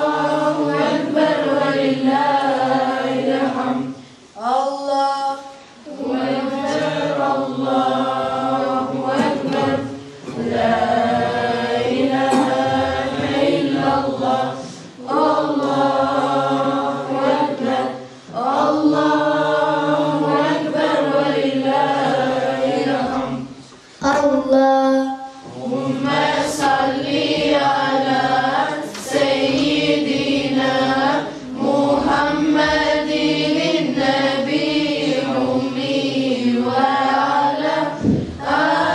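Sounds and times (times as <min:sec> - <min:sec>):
group singing devotional chant: 0:00.0 - 0:38.9.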